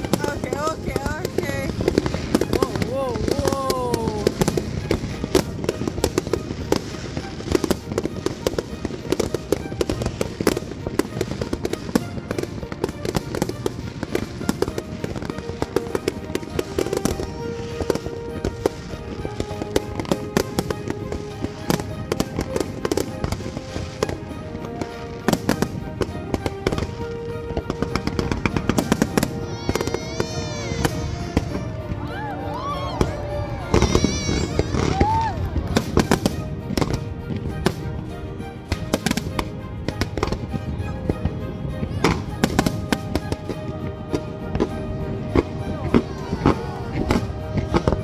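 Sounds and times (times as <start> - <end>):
fireworks bangs and crackling: 0.0 - 48.0
music with held notes: 0.0 - 48.0.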